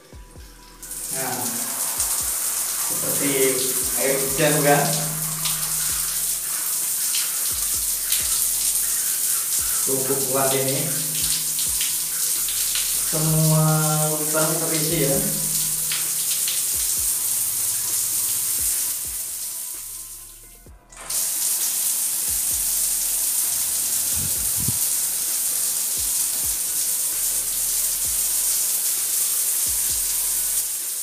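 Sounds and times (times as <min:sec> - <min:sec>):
shower water pouring onto tiles: 0:00.8 - 0:20.3, 0:21.0 - 0:31.0.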